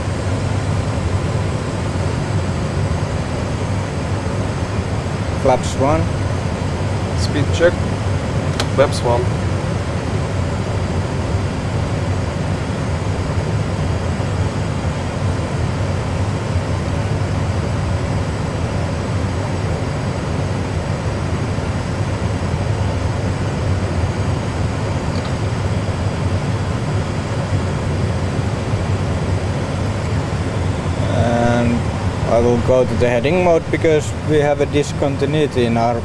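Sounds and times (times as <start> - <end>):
simulated engine and airflow rumble: 0.0 - 36.0.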